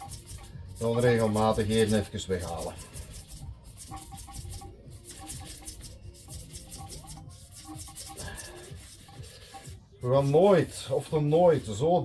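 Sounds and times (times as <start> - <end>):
faint background music: 0.0 - 12.0
sandpaper scraping on metal: 0.0 - 12.0.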